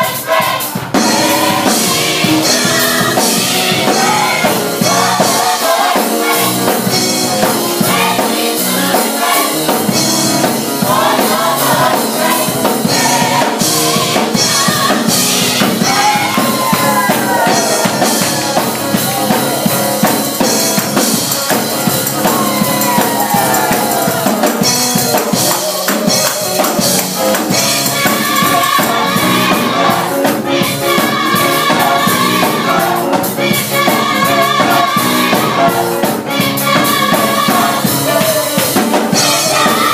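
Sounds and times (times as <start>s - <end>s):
drum kit beat: 0.0s - 39.9s
gospel choir singing: 0.0s - 39.9s.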